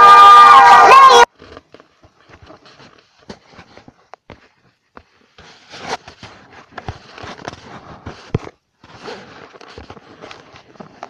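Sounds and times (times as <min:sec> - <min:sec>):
phone being handled and rubbed: 0:01.3 - 0:11.0.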